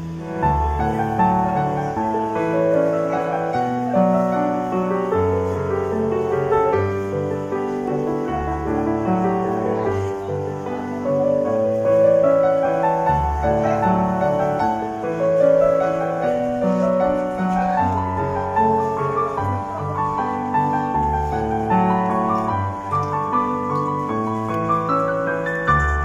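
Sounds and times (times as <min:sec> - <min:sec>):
piano-like keyboard melody: 0:00.0 - 0:26.0.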